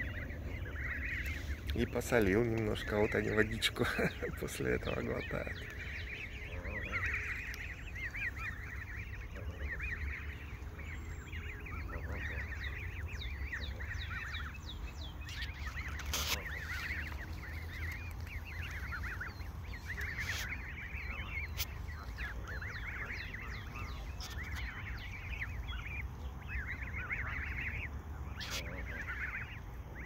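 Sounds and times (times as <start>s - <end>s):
goslings peeping: 0.0s - 30.0s.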